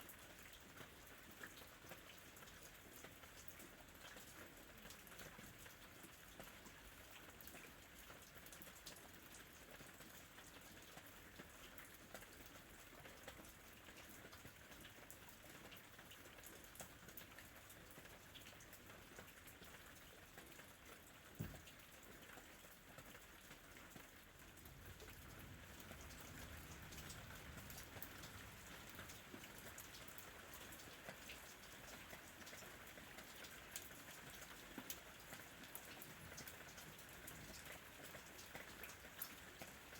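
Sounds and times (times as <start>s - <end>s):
faint steady rain: 0.0s - 39.9s.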